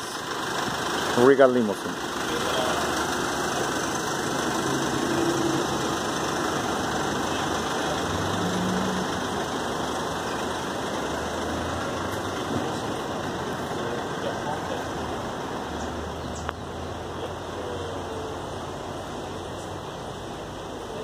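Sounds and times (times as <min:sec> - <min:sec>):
constant wash of noise: 0:00.0 - 0:21.0
vehicle engine idling: 0:00.0 - 0:21.0.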